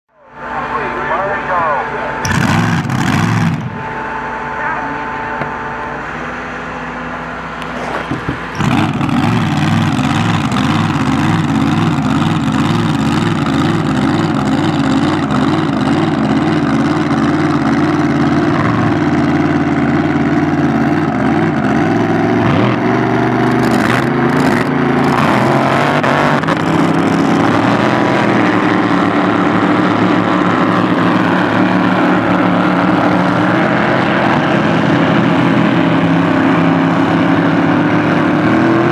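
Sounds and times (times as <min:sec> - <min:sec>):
racing boat engines: 0:00.1 - 0:38.9.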